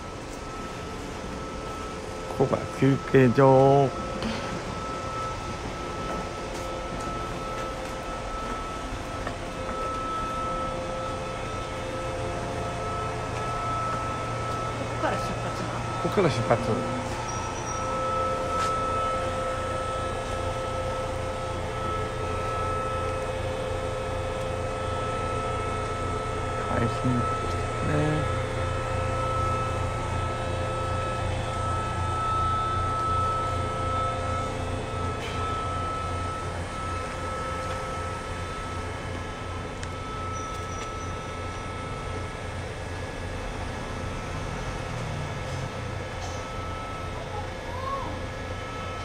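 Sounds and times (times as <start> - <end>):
high whine: 0.0 - 49.0
train equipment hum: 0.0 - 49.0.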